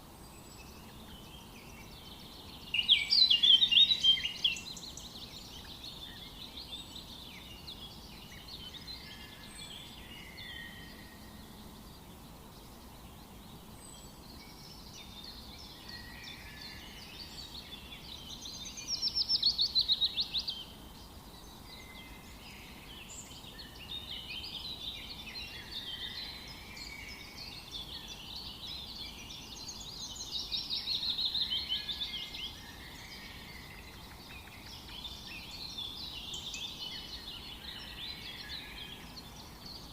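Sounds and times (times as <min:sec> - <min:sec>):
faint steady background noise: 0:00.0 - 0:39.9
birds chirping and singing: 0:00.2 - 0:39.9.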